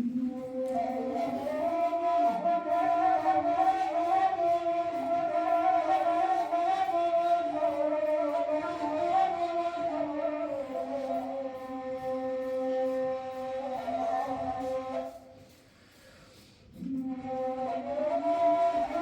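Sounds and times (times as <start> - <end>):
reed flute slow melody: 0.0 - 15.6, 16.8 - 19.0.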